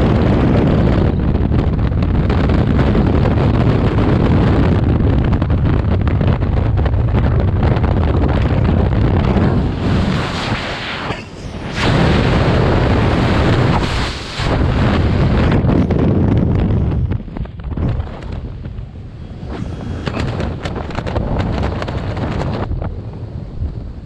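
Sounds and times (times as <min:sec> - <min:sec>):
wind roaring past microphone: 0:00.0 - 0:24.0.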